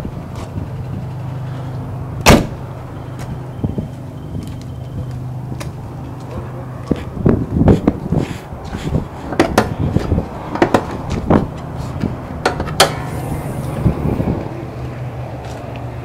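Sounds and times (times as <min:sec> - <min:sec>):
car engine idling hum: 0:00.0 - 0:16.0.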